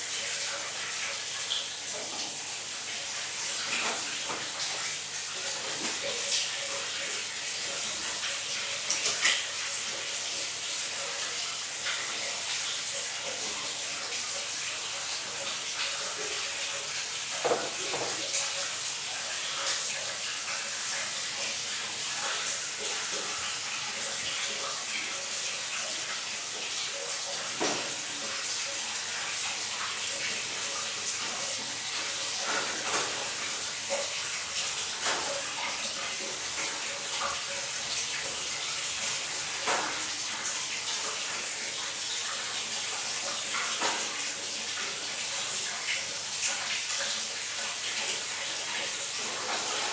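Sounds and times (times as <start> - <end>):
water running from a tap: 0.0 - 49.9.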